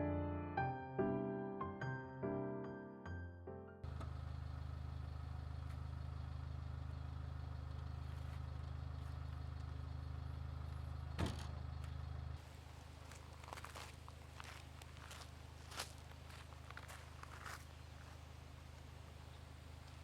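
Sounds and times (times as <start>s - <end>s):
low motor hum: 3.8s - 20.0s.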